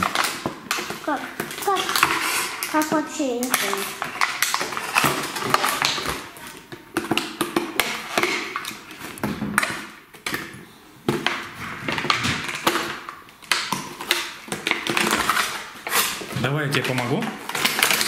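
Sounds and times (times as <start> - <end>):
plastic packaging crinkling: 0.0 - 10.5, 11.2 - 18.0.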